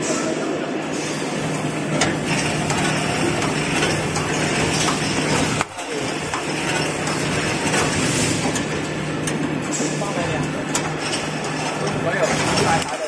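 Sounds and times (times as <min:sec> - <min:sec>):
machine clatter and whir: 0:00.9 - 0:13.0.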